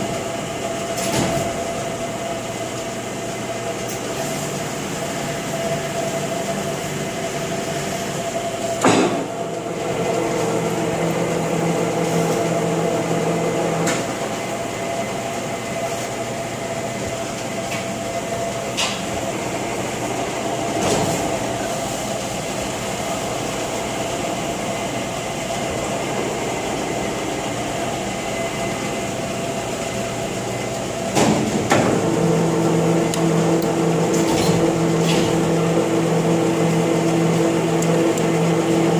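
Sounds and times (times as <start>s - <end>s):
lathe hum and whine: 0.0s - 38.9s.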